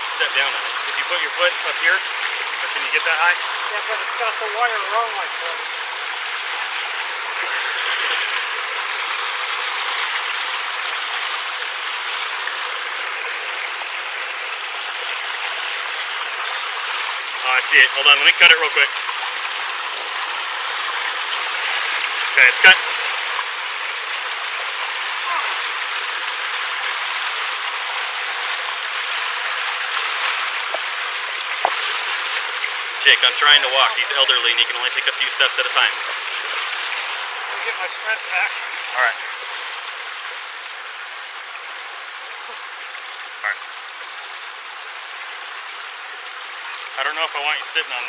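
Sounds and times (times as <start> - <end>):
floodwater rushing: 0.0 - 48.0.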